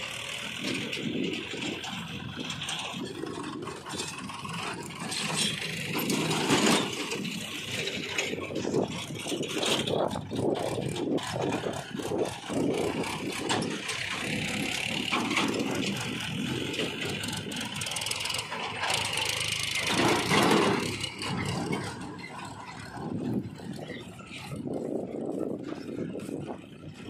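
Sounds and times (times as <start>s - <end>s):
diesel tractors driving past: 0.0s - 27.0s.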